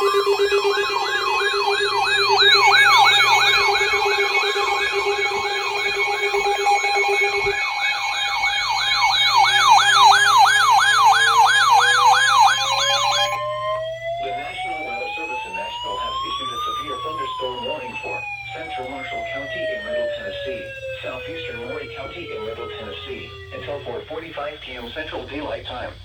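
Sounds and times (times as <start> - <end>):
low siren tone rising: 0.0 - 25.6
electronic yelp siren: 0.0 - 26.0
steady alarm tones: 0.0 - 26.0.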